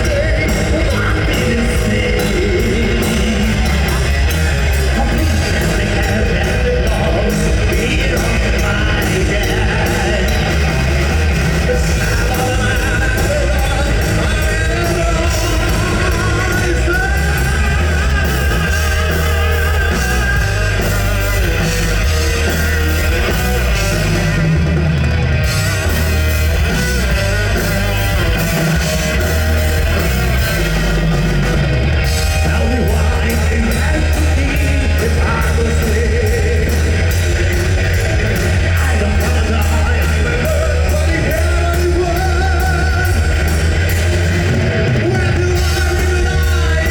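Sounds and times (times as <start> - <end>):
person singing: 0.0 - 24.4, 25.6 - 46.9
cymbals and drums beating: 0.0 - 46.9
heavy metal band playing: 0.0 - 46.9.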